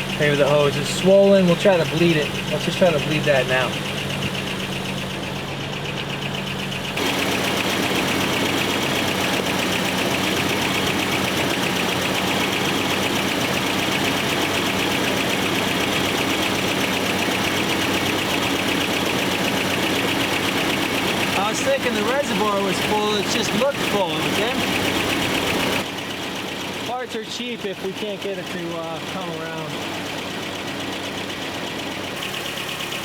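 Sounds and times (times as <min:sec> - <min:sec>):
pickup truck engine idling: 0:00.0 - 0:33.0.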